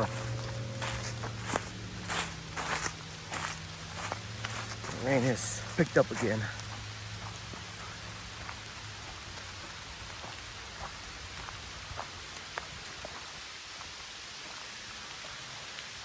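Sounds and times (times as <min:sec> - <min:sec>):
raindrops ticking close by: 0:00.0 - 0:16.0
steady rain hiss: 0:00.0 - 0:16.0.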